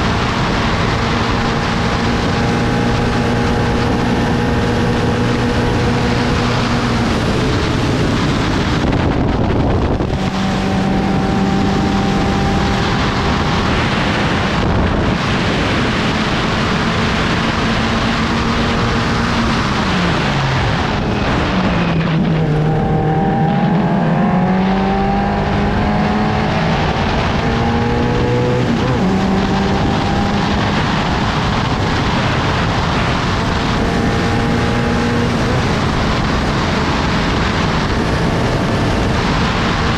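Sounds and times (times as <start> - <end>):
race car engine: 0.0 - 39.9
wind rushing: 0.0 - 39.9.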